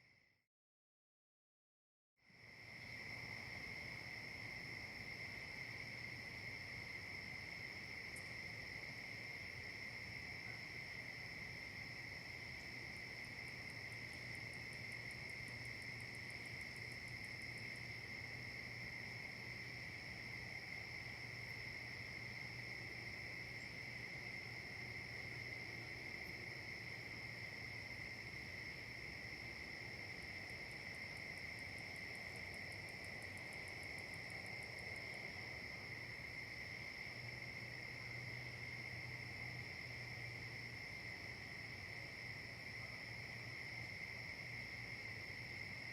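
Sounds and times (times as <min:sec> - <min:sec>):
insect chorus drone: 0:02.2 - 0:45.9.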